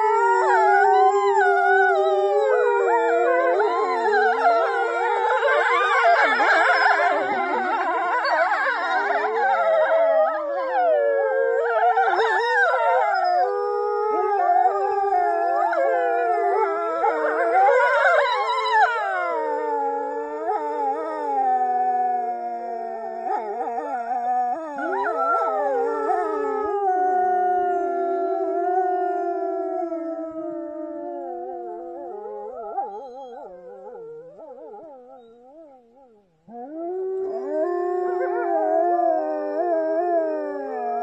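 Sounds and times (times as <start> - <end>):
wolves howling in chorus: 0.0 - 35.8, 36.5 - 41.0.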